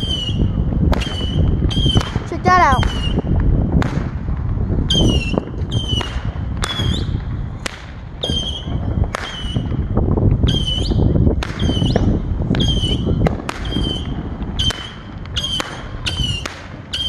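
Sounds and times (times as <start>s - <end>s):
firework high whistle: 0.0s - 3.3s, 4.9s - 7.2s, 8.2s - 9.8s, 10.4s - 17.0s
firework pops: 0.0s - 17.0s.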